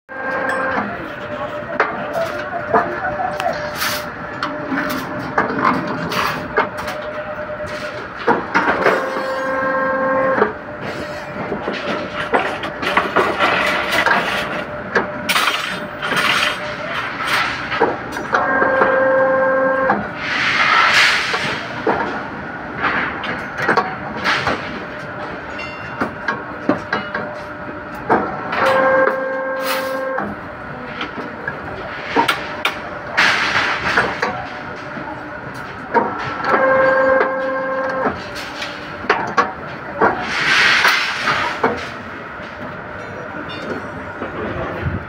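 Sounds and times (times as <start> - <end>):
bending machine whine: 0.1 - 45.0
steady background noise: 0.1 - 45.0
steel bars clanking and rattling: 0.3 - 9.7, 10.4 - 19.0, 19.9 - 45.0.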